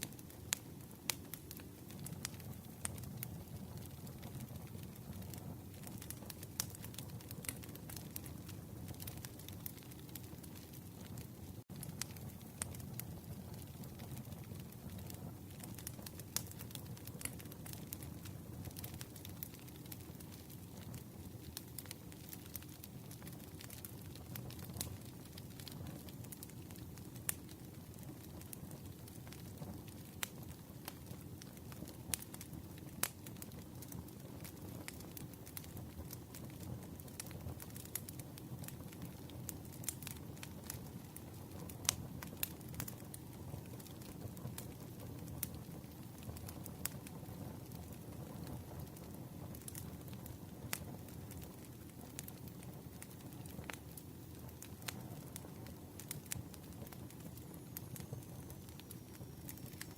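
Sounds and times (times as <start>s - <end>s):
low rush of flame: 0.0s - 58.9s
campfire snaps and pops: 0.0s - 59.9s.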